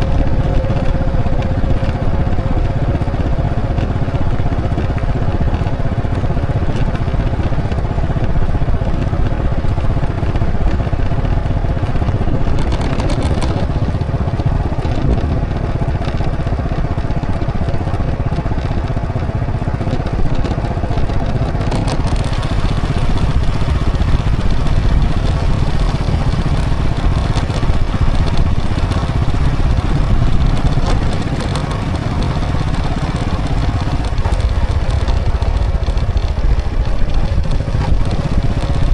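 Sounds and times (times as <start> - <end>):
low road rumble: 0.0 - 38.9
motorcycle engine running: 0.0 - 38.9.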